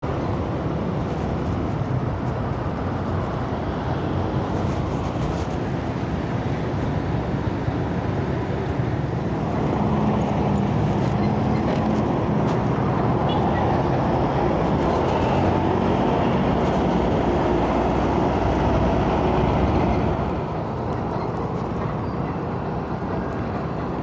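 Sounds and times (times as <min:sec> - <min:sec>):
truck diesel engine rumbling: 0:00.0 - 0:24.0.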